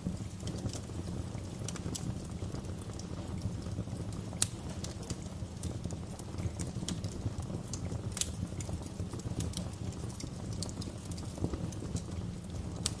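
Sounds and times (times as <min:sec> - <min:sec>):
fire crackling and popping: 0:00.0 - 0:13.0
fire flames rumbling: 0:00.0 - 0:13.0.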